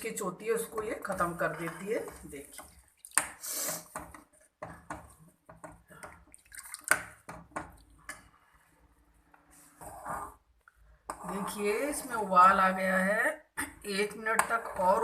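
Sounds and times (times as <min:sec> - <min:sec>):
spoon stirring in pan: 0:00.0 - 0:12.8, 0:13.8 - 0:15.0.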